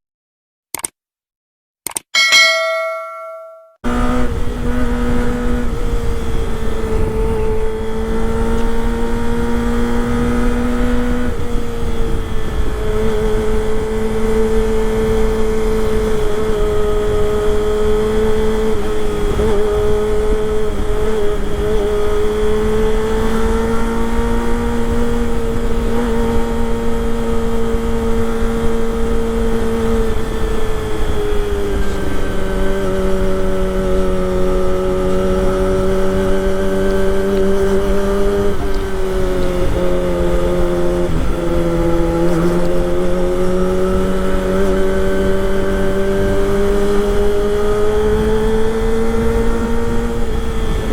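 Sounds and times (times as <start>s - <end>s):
motorcycle engine at high revs: 3.9s - 50.9s
wind and road rumble: 3.9s - 50.9s.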